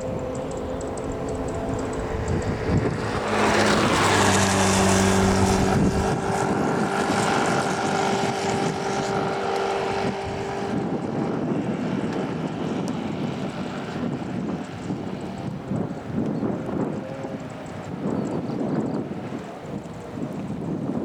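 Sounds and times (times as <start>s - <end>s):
wash of noise: 0.0s - 18.0s
vehicle engine humming: 0.0s - 21.0s.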